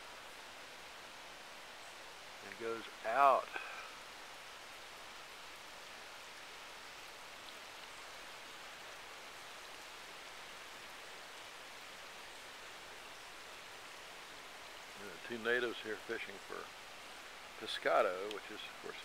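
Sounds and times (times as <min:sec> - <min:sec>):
river water rushing over rock: 0:00.0 - 0:19.0.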